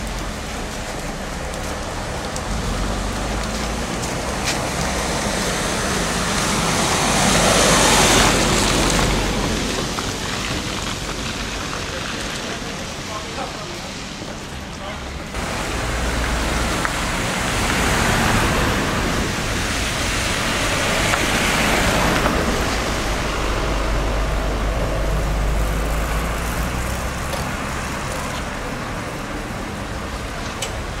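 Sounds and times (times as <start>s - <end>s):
cars passing on wet road: 0.0s - 31.0s.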